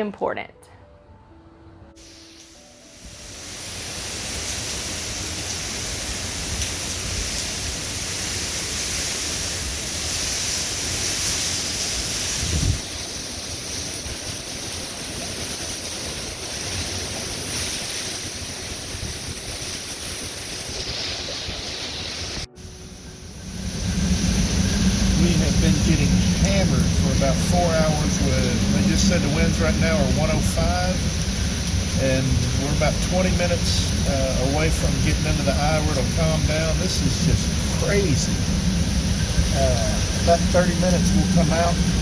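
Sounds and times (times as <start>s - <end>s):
strong wind buffeting microphone: 3.0s - 42.0s.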